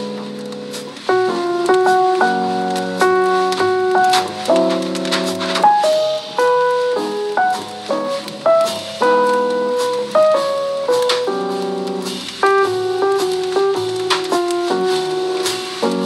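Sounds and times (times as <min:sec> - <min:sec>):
light drums: 0:00.0 - 0:16.0
piano jazz music: 0:00.0 - 0:16.0.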